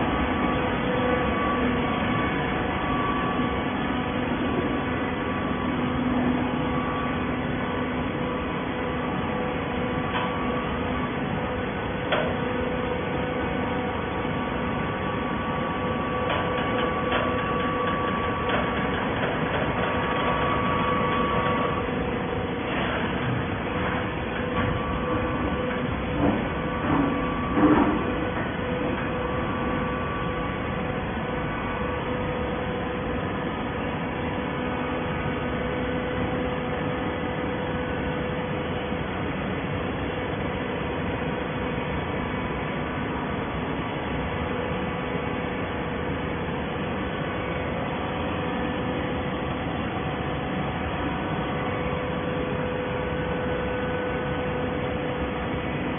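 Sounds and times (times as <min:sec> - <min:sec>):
high machine whine: 0:00.0 - 0:55.9
hydraulic machine hum: 0:00.0 - 0:55.9.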